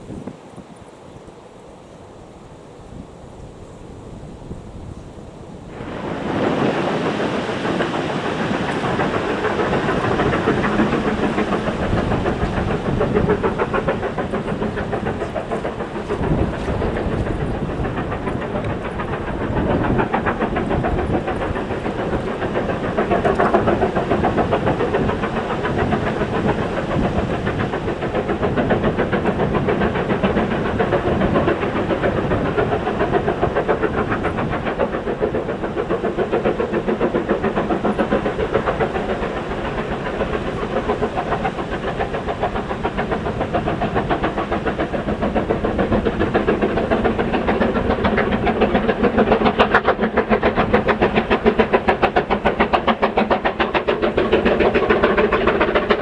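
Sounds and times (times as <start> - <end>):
steam locomotive chuffing: 2.4 - 56.0.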